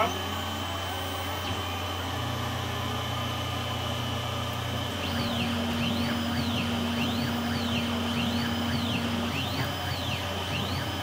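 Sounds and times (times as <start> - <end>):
milling machine humming: 0.0 - 11.0
motor whine rising and falling: 0.0 - 11.0.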